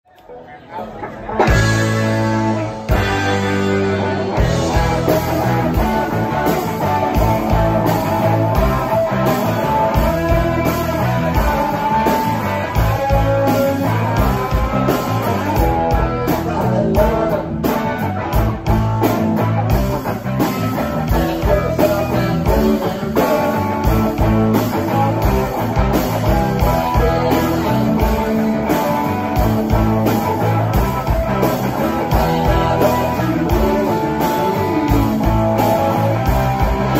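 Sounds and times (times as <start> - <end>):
bass guitar: 0.1 - 36.9
electric guitars: 0.1 - 36.9
steady drum beat: 1.4 - 36.9.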